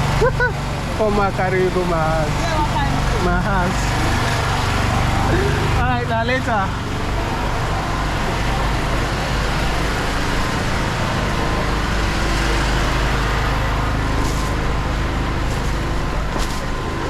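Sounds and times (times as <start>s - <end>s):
road traffic: 0.0s - 17.0s
vehicle engines rumbling: 0.0s - 17.0s.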